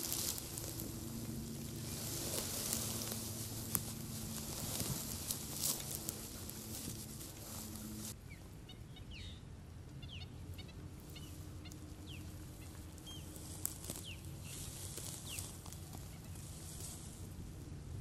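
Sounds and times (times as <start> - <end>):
birds chirping: 0.0 - 17.3
steady low hum: 0.0 - 18.0.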